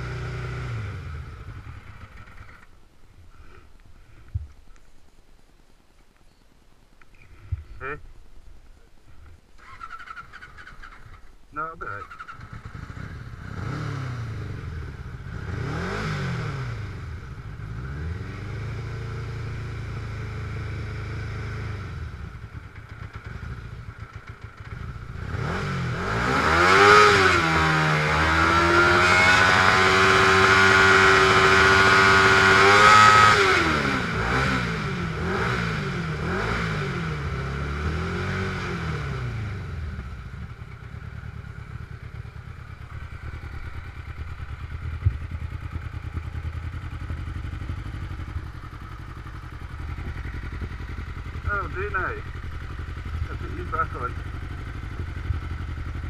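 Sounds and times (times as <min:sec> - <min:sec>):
dune buggy engine revving: 0:00.0 - 0:02.7, 0:09.6 - 0:56.0.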